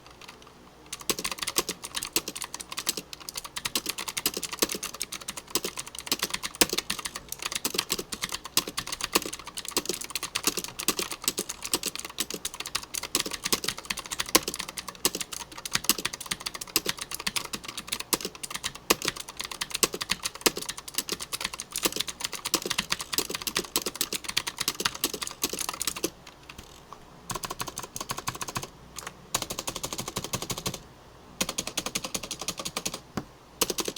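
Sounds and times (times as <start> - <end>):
keyboard typing: 0.0 - 30.8, 31.4 - 33.9.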